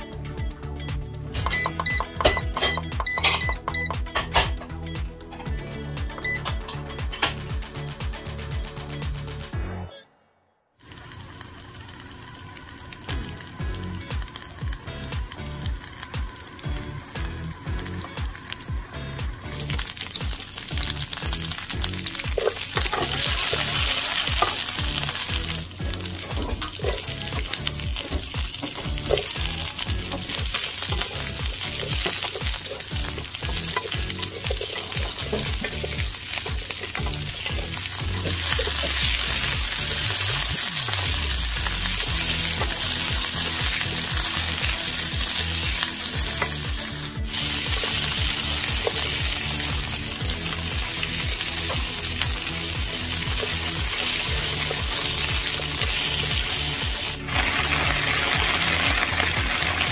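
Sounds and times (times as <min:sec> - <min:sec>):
vegetables sizzling in a pan: 0:10.8 - 0:59.9.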